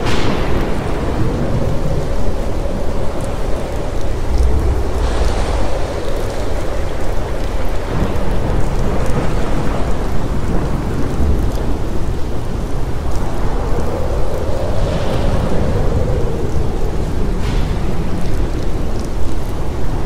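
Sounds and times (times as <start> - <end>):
deep thunder rumble: 0.0 - 20.0
heavy rain: 0.0 - 20.0.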